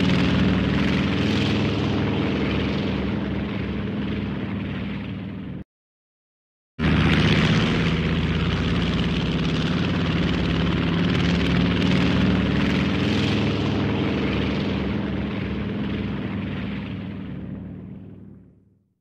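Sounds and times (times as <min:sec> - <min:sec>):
propeller plane engine drone: 0:00.0 - 0:05.6, 0:06.8 - 0:18.8.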